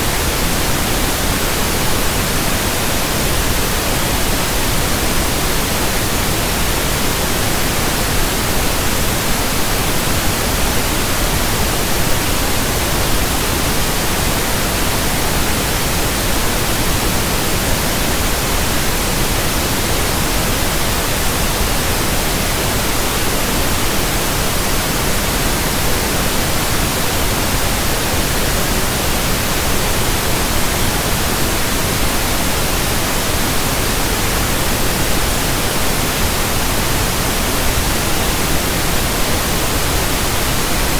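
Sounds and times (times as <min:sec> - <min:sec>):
pink noise hiss: 0:00.0 - 0:40.9.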